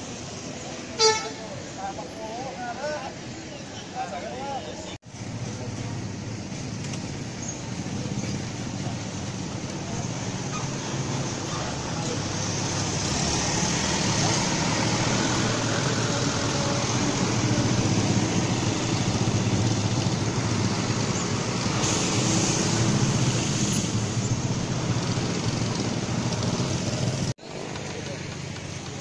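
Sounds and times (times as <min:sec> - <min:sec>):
road traffic engines: 0:00.0 - 0:29.0.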